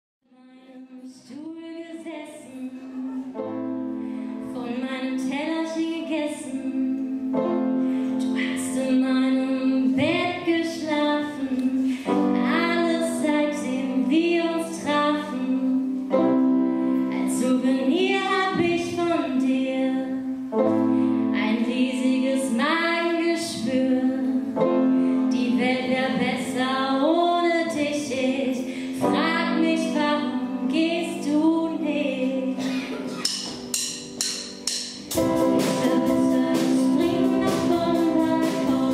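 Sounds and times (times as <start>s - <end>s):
woman singing: 0.2s - 3.4s, 4.3s - 7.3s, 8.1s - 16.0s, 17.0s - 32.6s, 35.2s - 38.9s
sustained keyboard chords: 3.2s - 38.9s.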